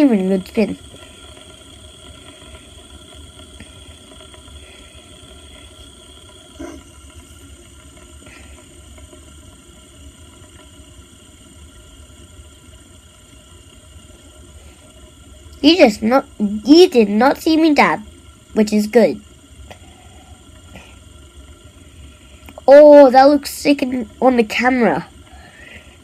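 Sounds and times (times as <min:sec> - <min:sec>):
fidget spinner whirring: 0:00.0 - 0:26.0.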